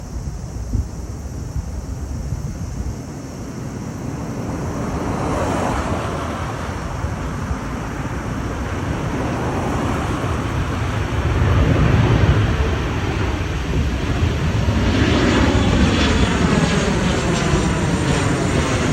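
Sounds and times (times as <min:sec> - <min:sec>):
jet airliner roar: 0:00.0 - 0:18.9
wind buffeting microphone: 0:00.0 - 0:18.9.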